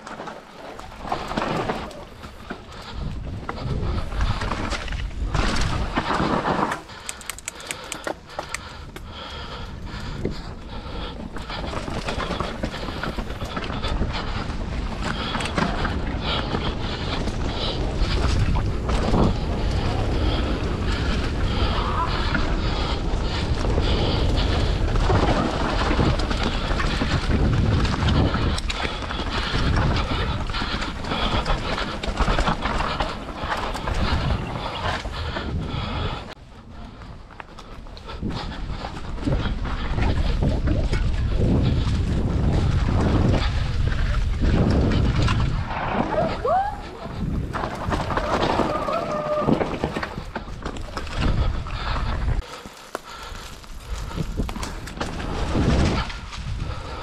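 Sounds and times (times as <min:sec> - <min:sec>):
bike clicks and rattles: 0:00.0 - 0:57.0
bike tyres rolling on dirt: 0:00.0 - 0:57.0
wind buffeting microphone: 0:00.7 - 0:57.0.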